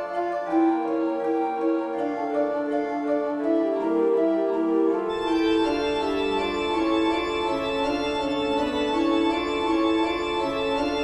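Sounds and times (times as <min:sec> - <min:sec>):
eerie organ music: 0:00.0 - 0:11.0.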